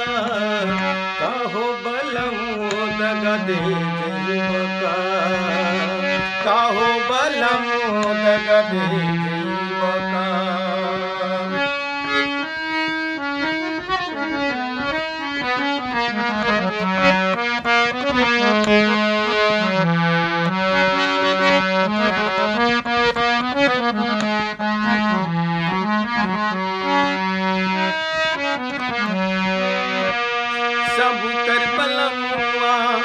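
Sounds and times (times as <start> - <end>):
harmonium melody: 0.0 - 33.0.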